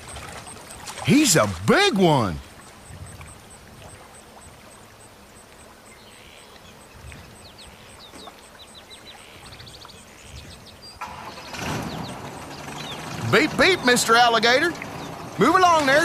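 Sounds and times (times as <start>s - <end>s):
bird chirps: 2.6s - 16.0s.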